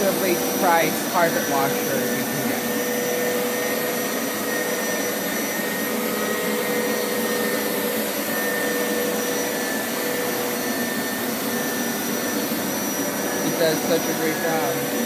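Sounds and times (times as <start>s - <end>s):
carpet washer motor whine: 0.0s - 15.0s.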